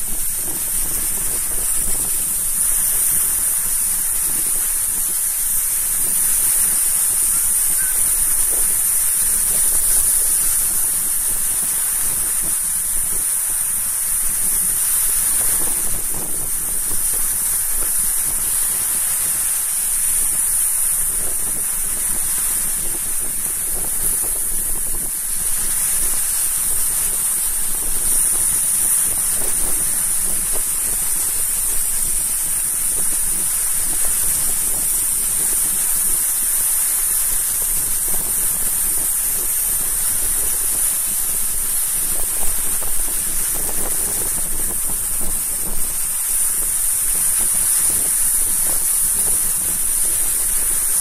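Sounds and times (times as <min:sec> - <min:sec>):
waves breaking on shore: 0:00.0 - 0:51.0
wind on microphone: 0:00.0 - 0:51.0.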